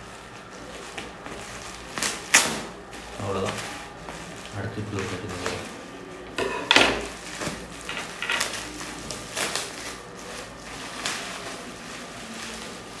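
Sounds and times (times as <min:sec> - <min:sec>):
bubble wrap crinkling: 0:00.0 - 0:06.1, 0:06.9 - 0:13.0.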